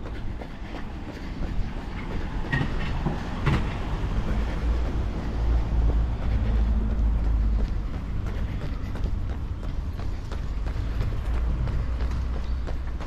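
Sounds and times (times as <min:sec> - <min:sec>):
heavy vehicle engine rumble: 0:00.0 - 0:13.0.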